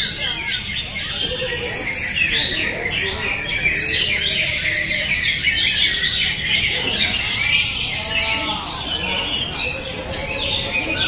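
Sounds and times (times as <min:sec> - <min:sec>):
chorus of birds singing: 0:00.0 - 0:11.0.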